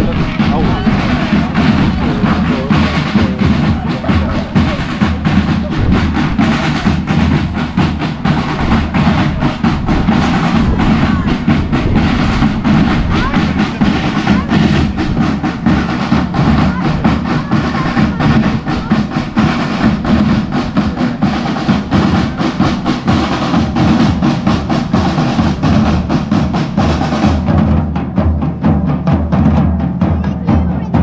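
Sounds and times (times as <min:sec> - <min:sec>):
marching drum band: 0:00.0 - 0:31.0.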